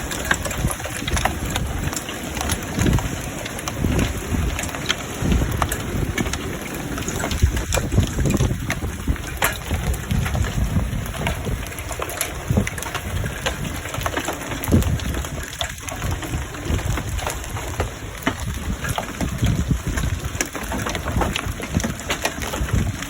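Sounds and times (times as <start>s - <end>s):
hailstones striking hard surfaces: 0.0s - 23.0s
storm wash: 0.0s - 23.0s
wind rumbling on microphone: 0.0s - 23.0s.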